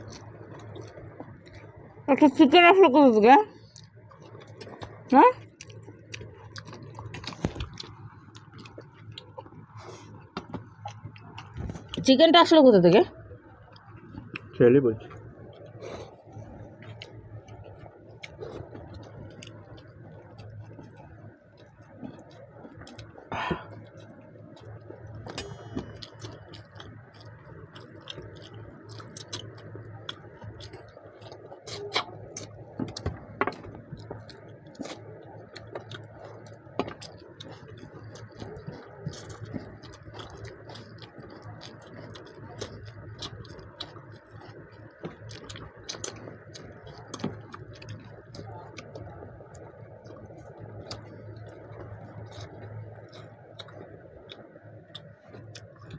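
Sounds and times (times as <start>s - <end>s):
chewing with wet mouth smacks: 0.0s - 2.4s, 3.5s - 12.2s, 13.3s - 55.9s
steady low hum: 0.0s - 55.9s.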